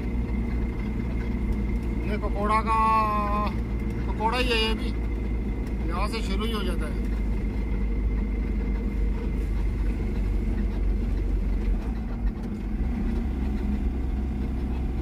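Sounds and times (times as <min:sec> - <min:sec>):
road noise: 0:00.0 - 0:15.0
van engine droning: 0:00.0 - 0:15.0.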